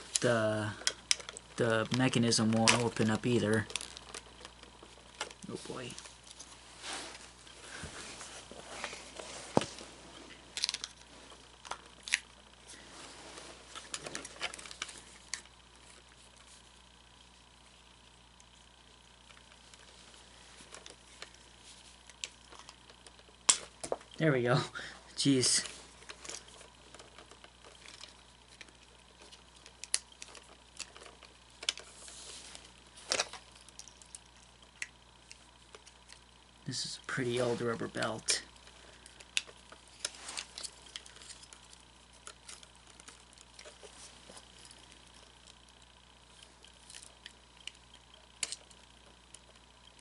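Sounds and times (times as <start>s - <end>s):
plastic parts clicking and crackling: 0.0s - 6.6s, 8.8s - 12.8s, 13.4s - 17.7s, 18.3s - 24.5s, 25.2s - 50.0s.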